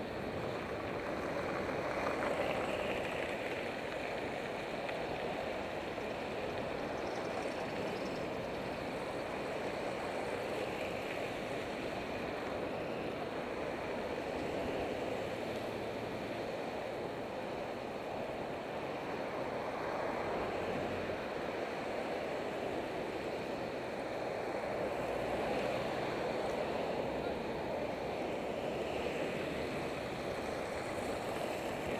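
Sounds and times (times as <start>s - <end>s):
passing road traffic: 0.0s - 31.9s.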